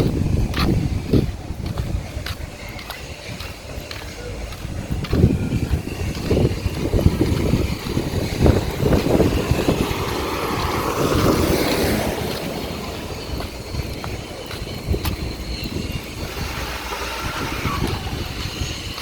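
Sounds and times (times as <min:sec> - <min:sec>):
wind buffeting microphone: 0:00.0 - 0:19.0
vehicle passing: 0:03.3 - 0:19.0.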